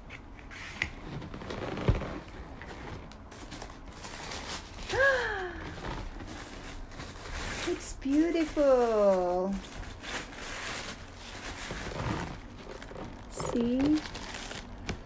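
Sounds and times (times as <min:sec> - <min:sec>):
cardboard rustling and scraping: 0:00.2 - 0:05.0, 0:05.7 - 0:15.0.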